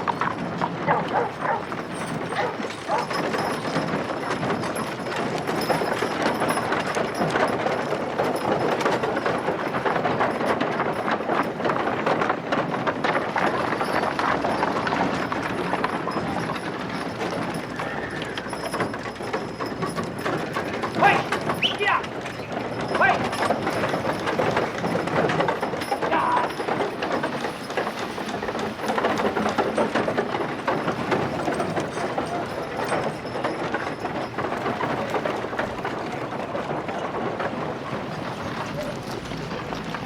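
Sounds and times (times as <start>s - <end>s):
clatter of small knocks: 0.0s - 40.0s.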